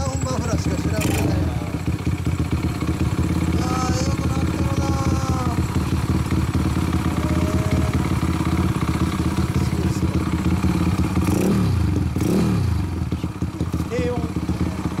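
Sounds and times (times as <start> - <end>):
motorcycle exhaust note: 0.0 - 15.0.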